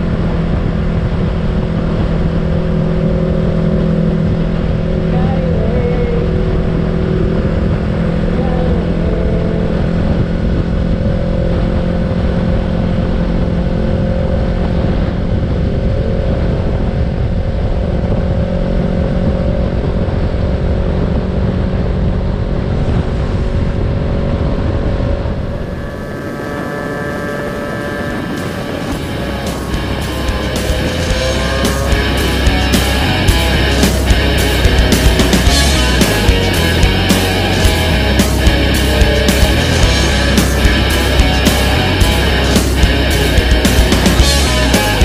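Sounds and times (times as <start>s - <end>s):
motorcycle engine running: 0.0s - 45.0s
wind rush on microphone: 0.0s - 45.0s.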